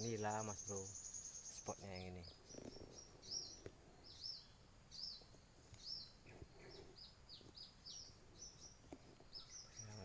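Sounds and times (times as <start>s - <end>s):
bird chirping faintly: 0.0s - 10.0s.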